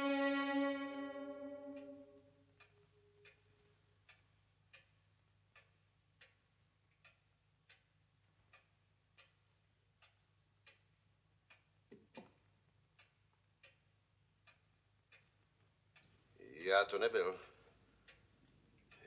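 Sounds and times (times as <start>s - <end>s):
clock ticking: 0.2s - 19.0s.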